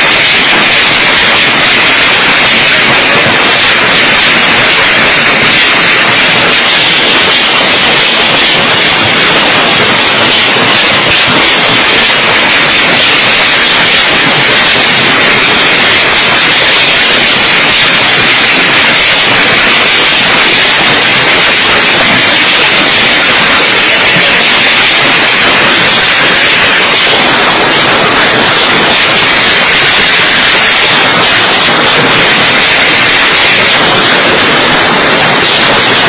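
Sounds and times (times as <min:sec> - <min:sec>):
storm wind and rain: 0:00.0 - 0:36.0.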